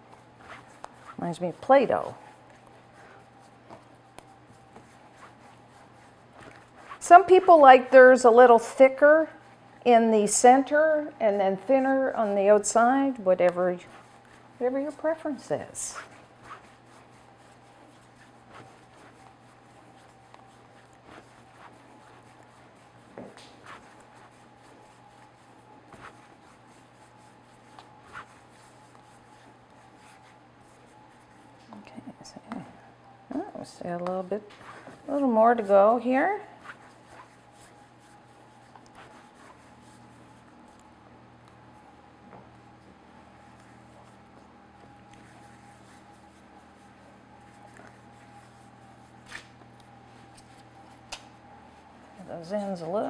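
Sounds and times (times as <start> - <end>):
hands rubbing dough on countertop: 0.0 - 32.6, 33.6 - 53.0
steady low hum: 0.0 - 53.0.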